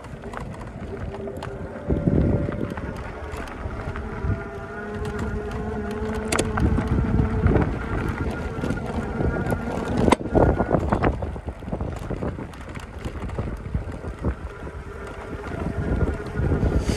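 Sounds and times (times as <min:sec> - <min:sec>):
electric motor whine: 0:00.0 - 0:16.9
wind rumbling on microphone: 0:00.0 - 0:16.9.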